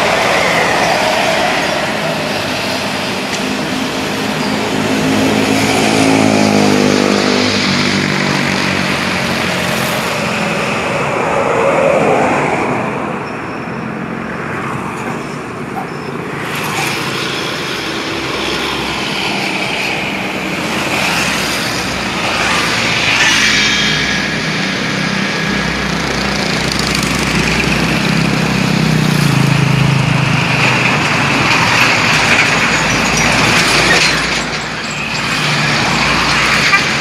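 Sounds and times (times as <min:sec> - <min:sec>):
heavy truck engine: 0:00.0 - 0:11.4, 0:15.0 - 0:37.0
traffic passing on highway: 0:00.0 - 0:37.0.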